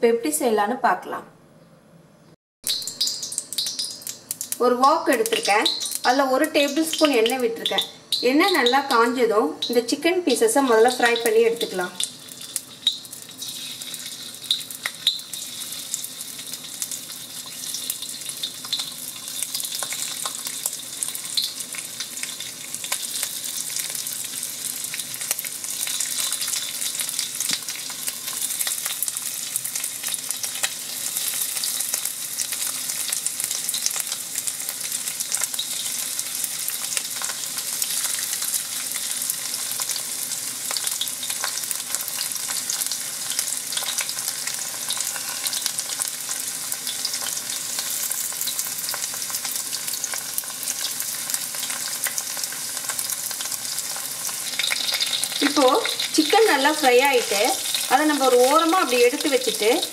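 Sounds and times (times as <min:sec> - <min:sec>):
chicken sizzling in hot oil: 0:02.6 - 0:59.9.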